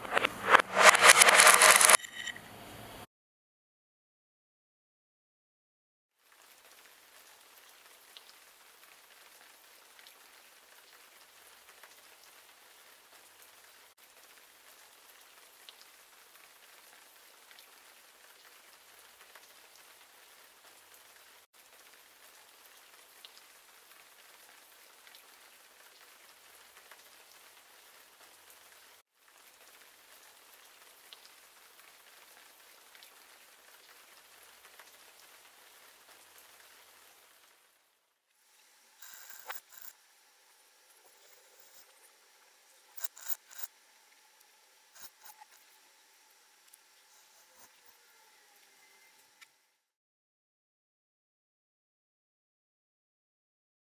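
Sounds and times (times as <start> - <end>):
faint rain-like patter: 6.2 - 49.9.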